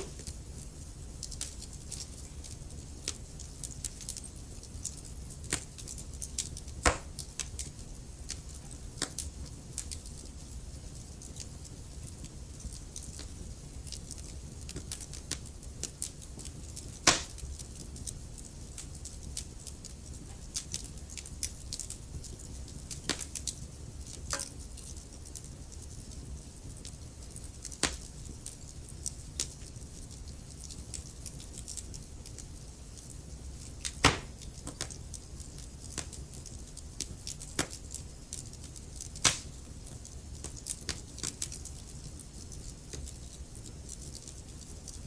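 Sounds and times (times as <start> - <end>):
fire rumbling: 0.0 - 45.0
logs crackling and popping: 0.0 - 45.0.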